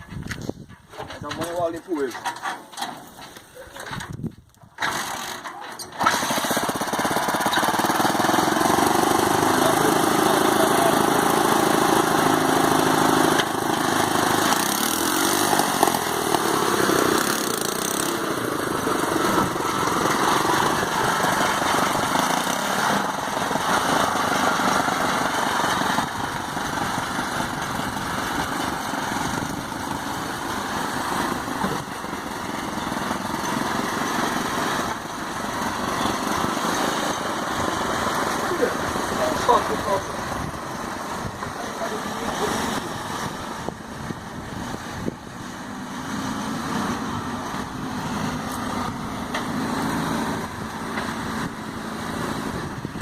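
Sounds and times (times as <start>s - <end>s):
small engine running: 4.8s - 53.0s.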